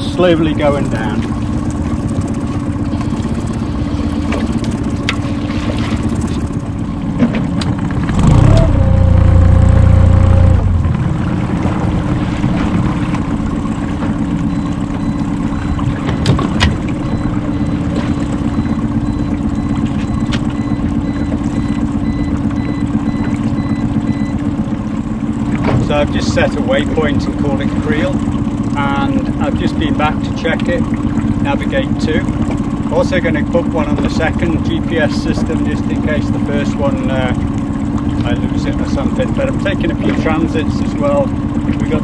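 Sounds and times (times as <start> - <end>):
outboard motor idling: 0.0 - 42.0.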